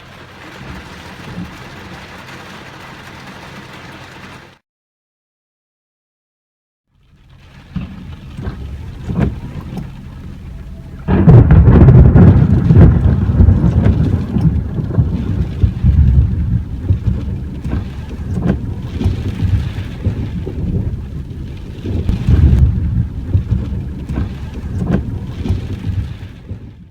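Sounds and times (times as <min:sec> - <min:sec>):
thunder rumbling: 0:00.0 - 0:03.8, 0:07.4 - 0:26.9
rain falling: 0:00.0 - 0:04.6, 0:07.0 - 0:26.8.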